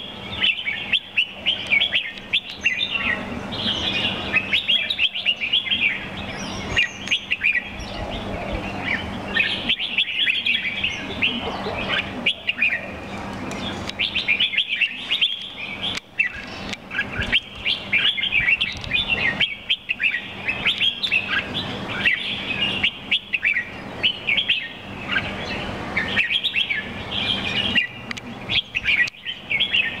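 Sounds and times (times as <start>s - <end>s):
bird singing bright chirping phrases: 0.0s - 30.0s.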